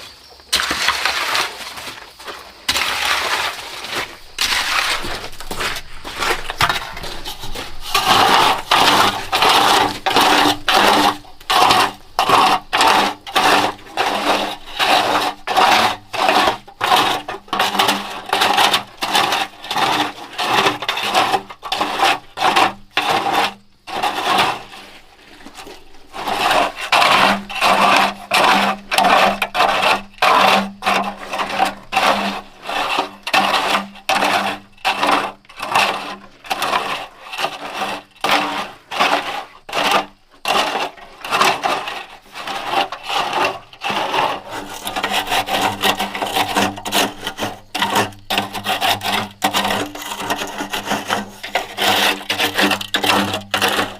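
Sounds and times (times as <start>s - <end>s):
hand tool scraping strokes: 0.0s - 53.9s.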